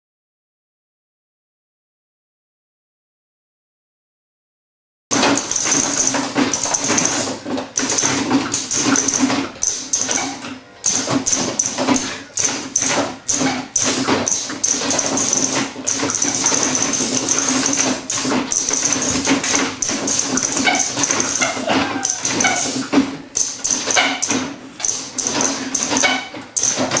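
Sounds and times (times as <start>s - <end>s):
machine hum: 5.1s - 27.0s.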